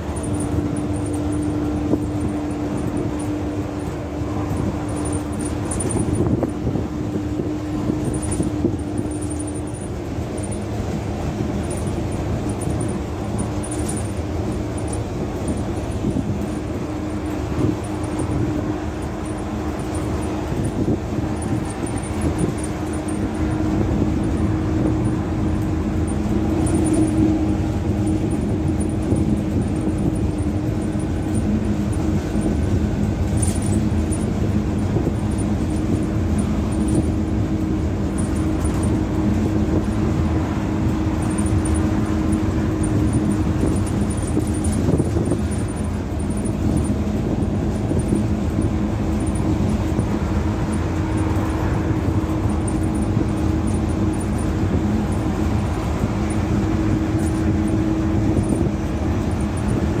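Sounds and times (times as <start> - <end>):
bus engine drone: 0.0 - 60.0
tyre and road rumble: 0.0 - 60.0.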